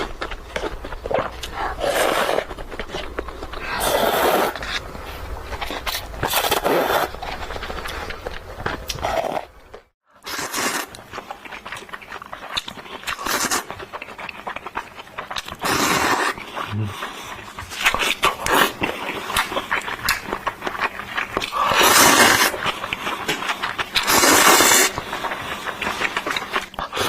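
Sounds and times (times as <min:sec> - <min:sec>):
chewing and smacking: 0:00.0 - 0:27.0
slurping noodles: 0:00.6 - 0:09.5, 0:10.2 - 0:27.0.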